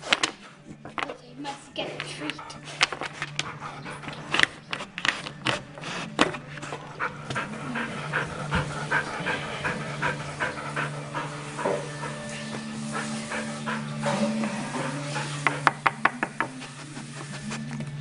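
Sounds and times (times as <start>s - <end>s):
dog panting: 1.5s - 18.0s.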